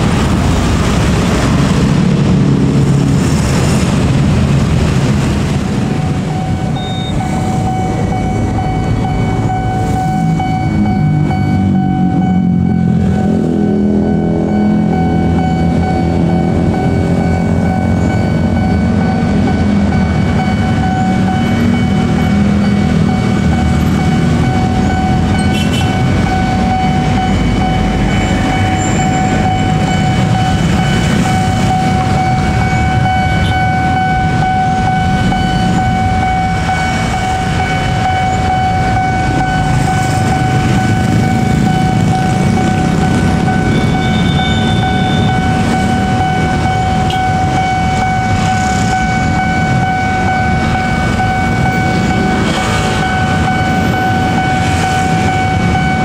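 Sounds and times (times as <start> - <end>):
level crossing warning alarm: 0.0 - 56.0
low traffic rumble: 0.0 - 56.0.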